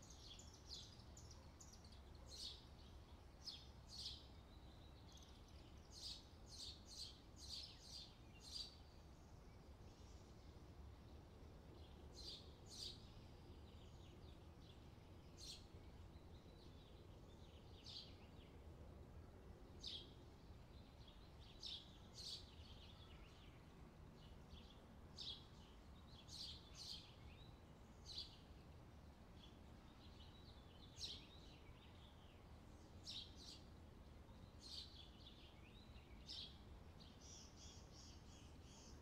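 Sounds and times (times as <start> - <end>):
small bird chirps: 0.0 - 10.4, 11.8 - 18.5, 20.8 - 23.7, 24.3 - 28.7, 29.4 - 39.0
faint low hum: 0.0 - 39.0.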